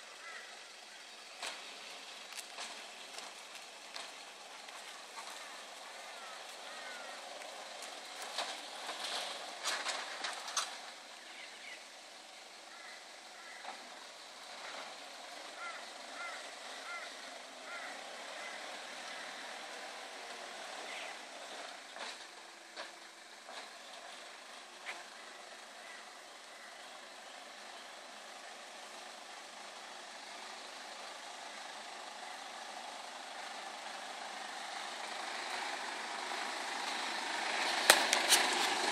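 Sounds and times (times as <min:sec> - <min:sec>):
faint car engine: 0:00.0 - 0:38.9.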